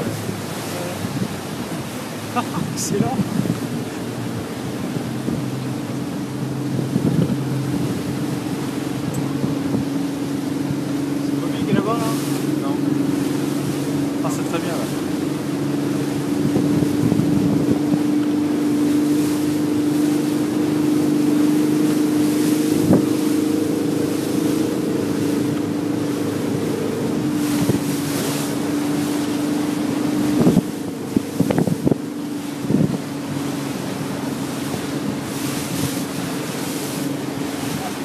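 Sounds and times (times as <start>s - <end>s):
motorboat engine running: 0.0s - 38.0s
wind on microphone: 0.0s - 38.0s.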